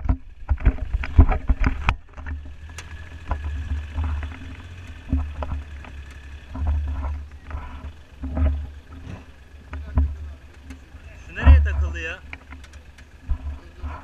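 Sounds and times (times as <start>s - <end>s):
sharp knocks and clicks: 0.0s - 14.0s.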